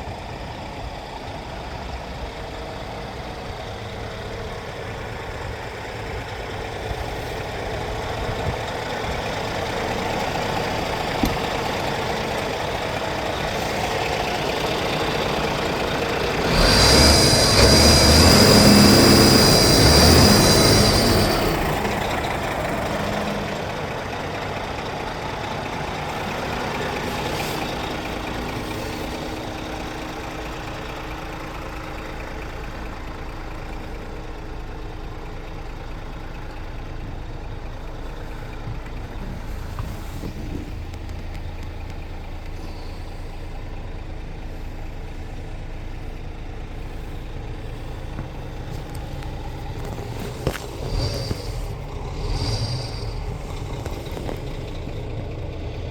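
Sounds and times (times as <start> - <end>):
truck diesel engine idling: 0.0 - 55.9.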